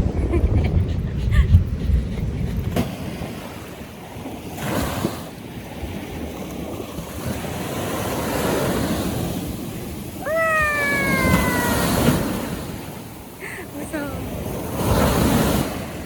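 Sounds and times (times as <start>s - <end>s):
wind on microphone: 0.0s - 16.0s
surf washing onto beach: 2.7s - 16.0s.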